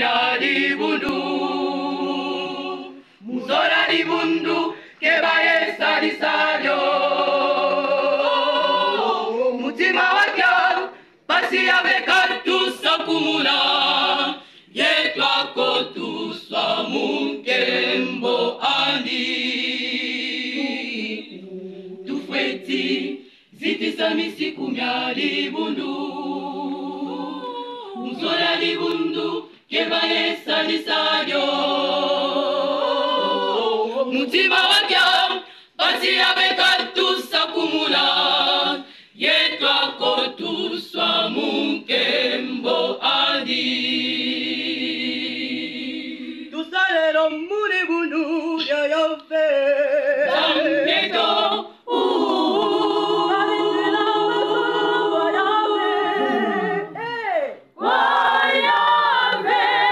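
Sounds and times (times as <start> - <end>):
choir singing a hymn unaccompanied: 0.0 - 47.1, 47.8 - 57.0, 57.8 - 59.9.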